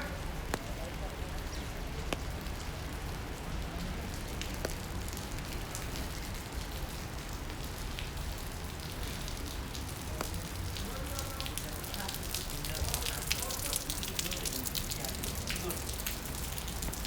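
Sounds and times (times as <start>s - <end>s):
rain falling on street: 0.0s - 17.0s.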